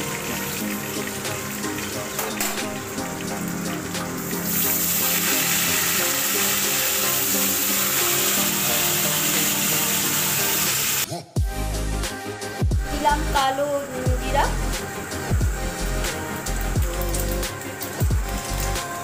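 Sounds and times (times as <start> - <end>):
oil sizzling in a frying pan: 0.0 - 11.1, 11.8 - 19.0
background music: 0.0 - 19.0.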